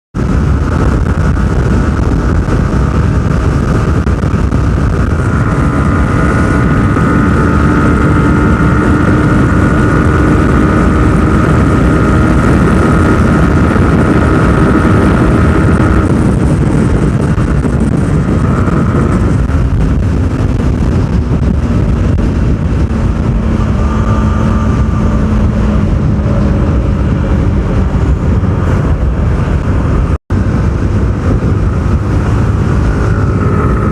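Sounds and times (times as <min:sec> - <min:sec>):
motorcycle engine running hard: 0:00.1 - 0:33.9
wind rush on microphone: 0:00.1 - 0:33.9.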